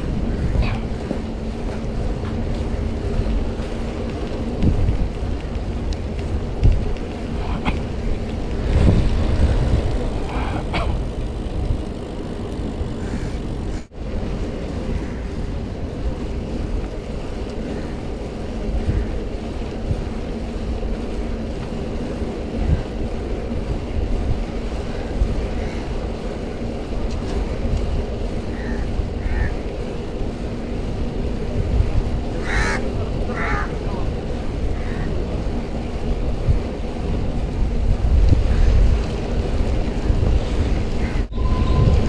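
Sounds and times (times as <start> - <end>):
bicycle tyres rolling on asphalt: 0.0 - 42.0
wind rush on microphone: 0.0 - 42.0.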